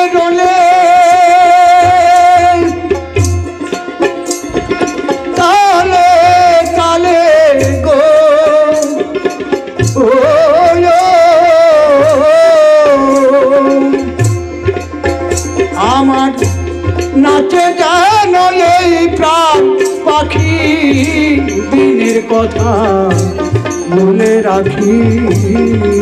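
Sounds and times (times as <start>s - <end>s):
man singing folk song: 0.0s - 2.9s, 5.2s - 9.0s, 9.9s - 14.0s, 15.7s - 26.0s
harmonium: 0.0s - 26.0s
plucked string instrument: 0.0s - 26.0s
tabla: 0.0s - 26.0s.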